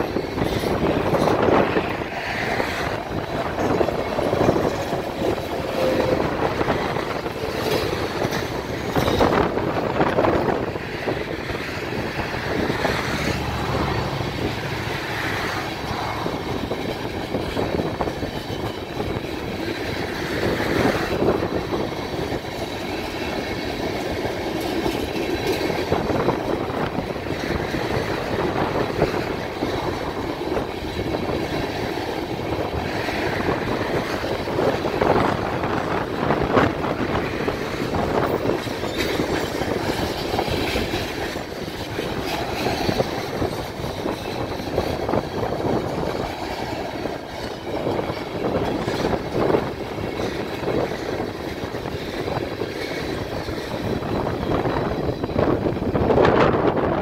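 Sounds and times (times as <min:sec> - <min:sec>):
freight train rumbling past: 0:00.0 - 0:57.0
wheels clicking and knocking: 0:00.0 - 0:57.0.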